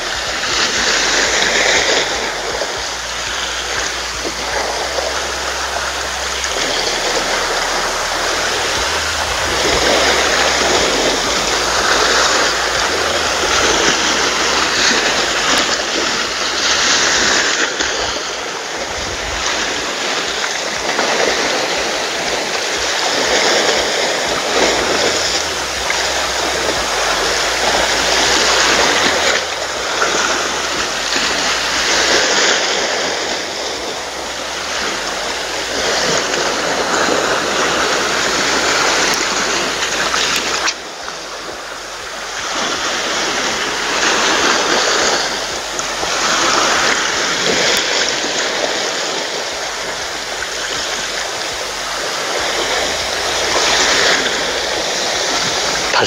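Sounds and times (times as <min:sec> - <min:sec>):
waves washing over rocks: 0:00.0 - 0:56.0.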